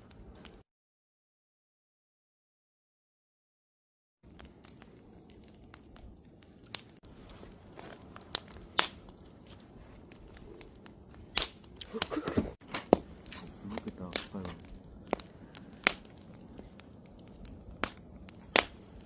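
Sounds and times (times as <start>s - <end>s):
campfire crackling and popping: 0.0s - 0.6s, 4.2s - 19.0s.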